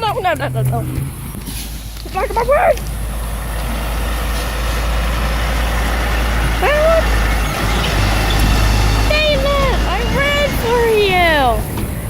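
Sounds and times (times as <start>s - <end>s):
truck engine and tyre noise: 0.0s - 12.0s.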